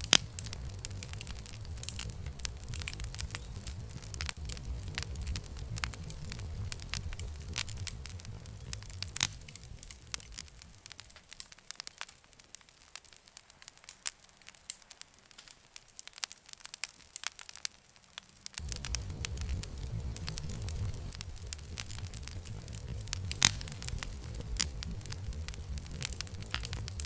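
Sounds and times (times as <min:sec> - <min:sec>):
burning wood popping: 0:00.0 - 0:27.0
campfire crackling: 0:00.0 - 0:27.0
low rumble of flames: 0:00.0 - 0:27.0.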